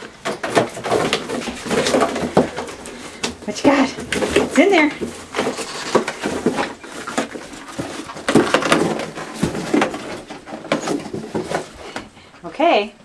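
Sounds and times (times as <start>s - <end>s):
cardboard and paper rustling: 0.0s - 12.2s.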